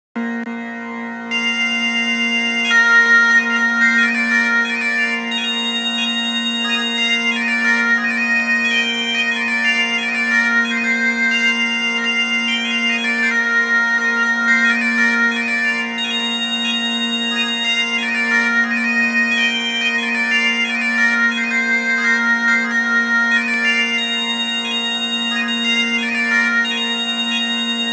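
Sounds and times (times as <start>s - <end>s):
bagpipe drone: 0.2s - 27.9s
bagpipe melody: 0.2s - 27.9s.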